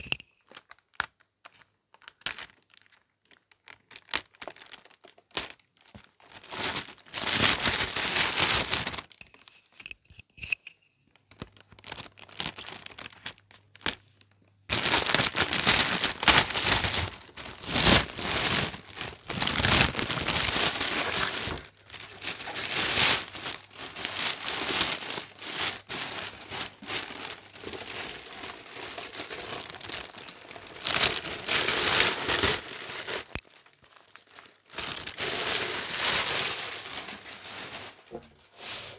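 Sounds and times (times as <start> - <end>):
plastic bag crinkling: 0.0 - 38.2.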